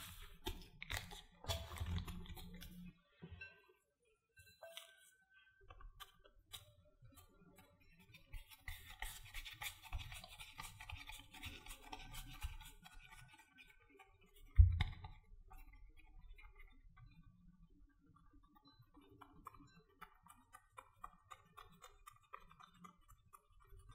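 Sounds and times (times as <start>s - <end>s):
hands squishing dough: 0.0s - 3.0s, 5.7s - 23.9s.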